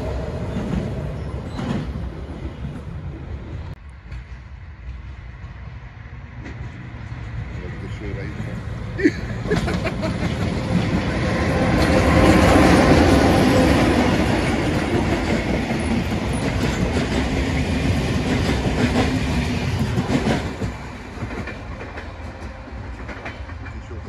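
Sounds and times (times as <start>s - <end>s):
train wheels clattering over track: 0.0s - 2.2s, 4.0s - 24.0s.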